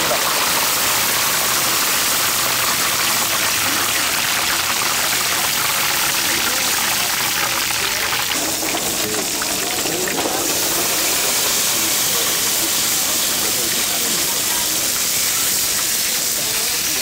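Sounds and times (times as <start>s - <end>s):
oil sizzling on a griddle: 0.0s - 17.0s.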